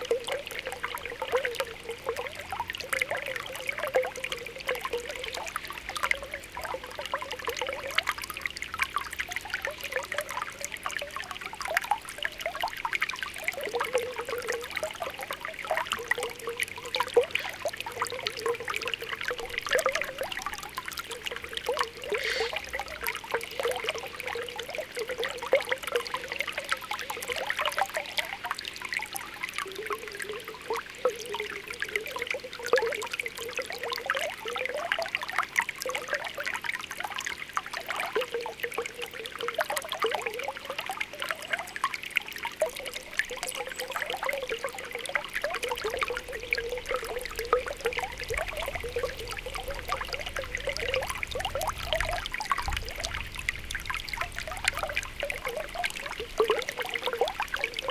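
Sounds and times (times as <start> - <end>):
spring water bubbling and popping: 0.0 - 57.9
water trickling: 0.0 - 57.9.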